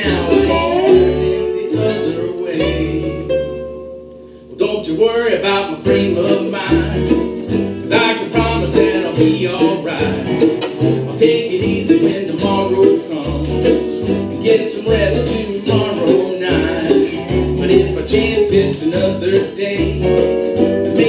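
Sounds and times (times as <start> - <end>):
mandolin: 0.0 - 4.2, 4.8 - 21.0
bluegrass band playing: 0.0 - 21.0
upright bass plucked: 0.0 - 21.0.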